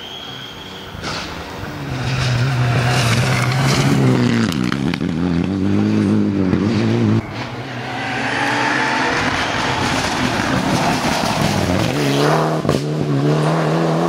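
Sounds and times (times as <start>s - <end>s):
rally car engine revving hard: 1.9s - 7.2s, 8.1s - 14.0s.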